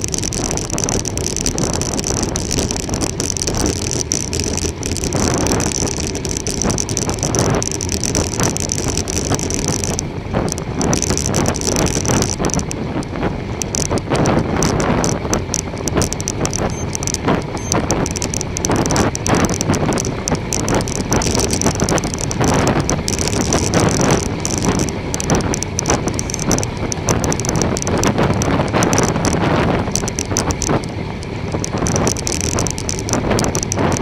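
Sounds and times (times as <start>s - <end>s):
bicycle tyre and drivetrain noise: 0.0s - 34.0s
wind buffeting microphone: 0.0s - 34.0s.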